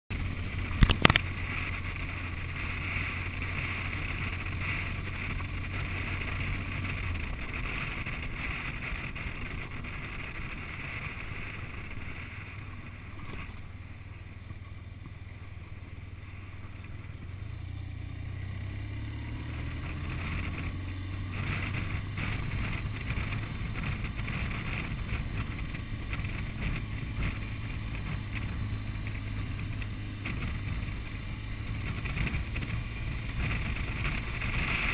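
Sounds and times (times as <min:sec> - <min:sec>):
wind noise on microphone: 0:00.1 - 0:14.2, 0:16.2 - 0:34.9
motorcycle engine running: 0:00.1 - 0:34.9.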